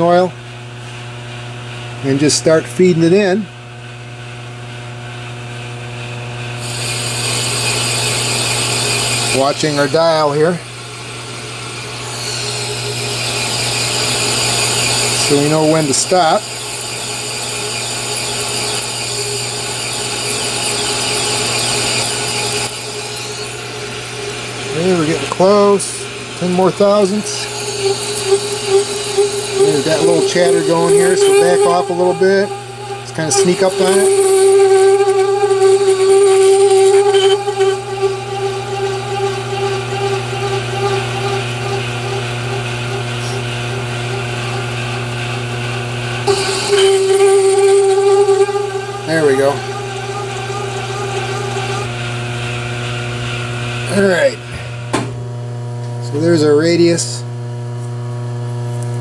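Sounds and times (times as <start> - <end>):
metal lathe humming: 4.4 - 57.7
cutting tool hissing: 6.4 - 55.1.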